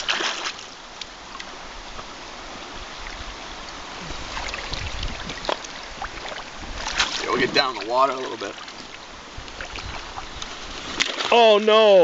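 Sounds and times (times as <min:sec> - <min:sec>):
river water rushing: 0:00.0 - 0:12.0
water splashes: 0:00.0 - 0:12.0.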